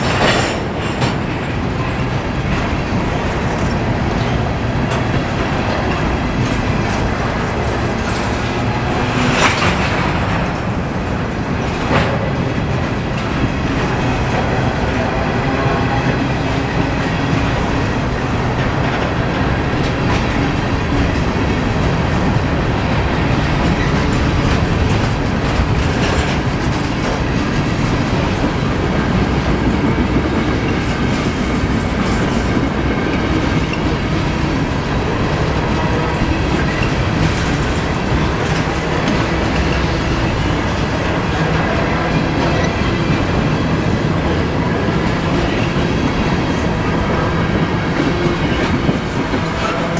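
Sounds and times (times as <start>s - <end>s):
freight train rumbling past: 0.0s - 49.9s
wheels clacking over rail joints: 0.0s - 49.9s.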